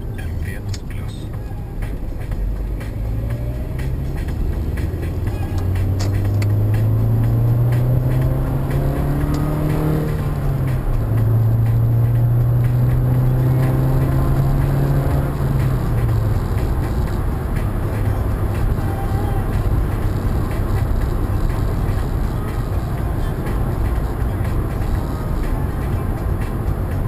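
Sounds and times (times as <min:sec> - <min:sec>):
vehicle engine under load: 0:00.0 - 0:27.0.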